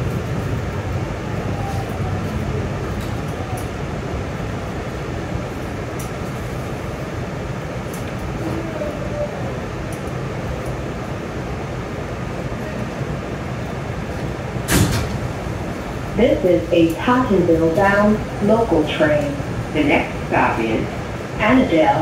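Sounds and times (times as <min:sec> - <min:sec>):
subway car rumble and hum: 0:00.0 - 0:22.0.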